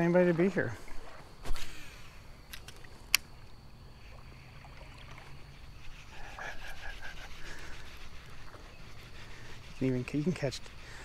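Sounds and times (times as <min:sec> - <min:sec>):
creek-side ambience: 0:00.0 - 0:11.0.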